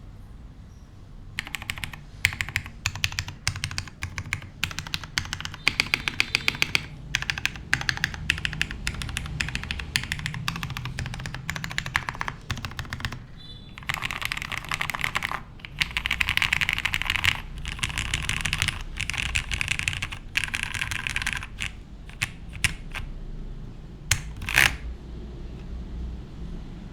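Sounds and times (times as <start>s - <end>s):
fast typing on mechanical keyboard: 1.4s - 23.1s, 24.1s - 24.9s.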